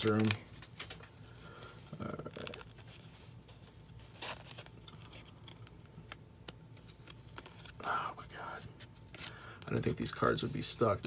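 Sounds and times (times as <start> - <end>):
cards rustling: 0.0 - 11.0.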